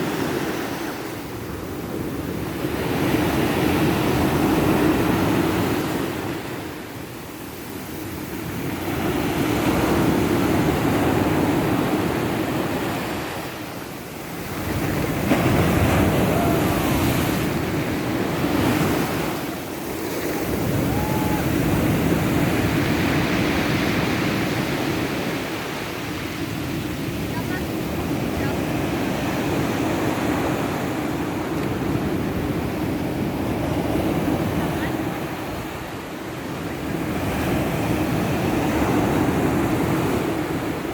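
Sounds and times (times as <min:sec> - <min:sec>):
heavy surf breaking on beach: 0:00.0 - 0:40.9.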